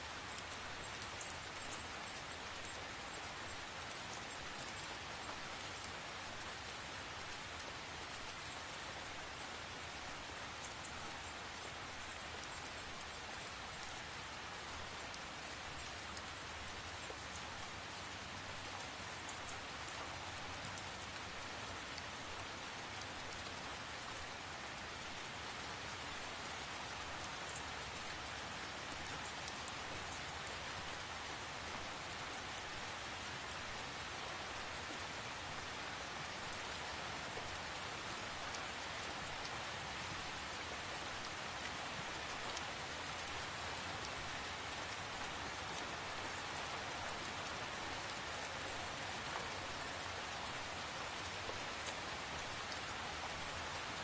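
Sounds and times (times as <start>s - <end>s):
steady rain falling: 0.0s - 54.0s
ticks of raindrops: 0.0s - 54.0s.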